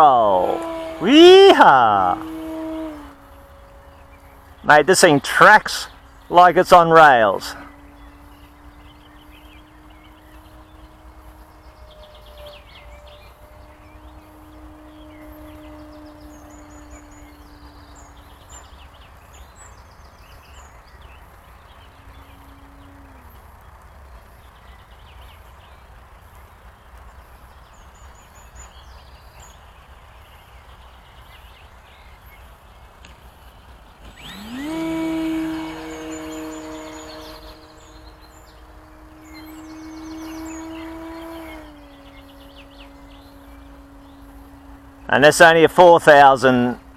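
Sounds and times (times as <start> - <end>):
model plane propeller droning: 0.0 - 46.9
small birds chirping: 0.0 - 46.9.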